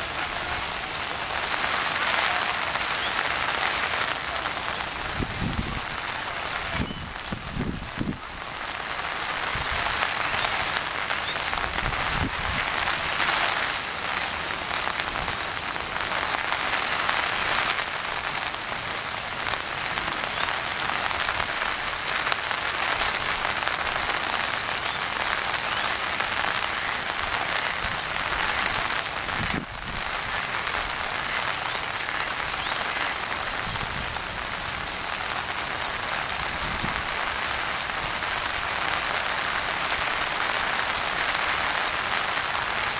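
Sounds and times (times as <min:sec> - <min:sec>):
rain falling on pond water: 0:00.0 - 0:42.9.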